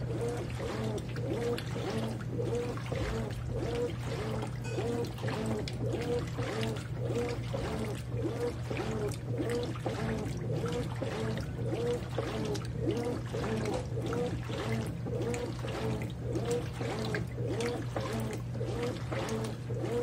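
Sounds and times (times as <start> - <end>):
washing machine motor hum: 0.0 - 20.0
water sloshing and splashing: 0.0 - 20.0.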